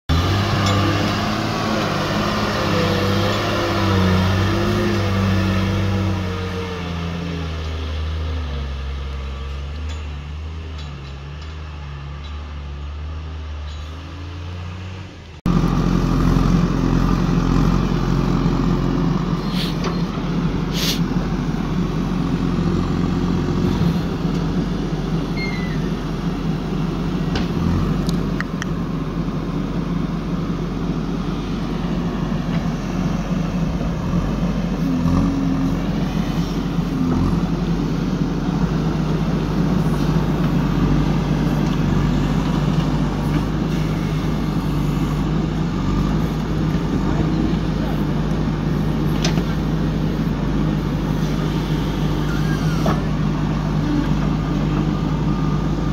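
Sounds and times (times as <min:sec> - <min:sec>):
diesel engine running under load: 0:00.1 - 0:55.9.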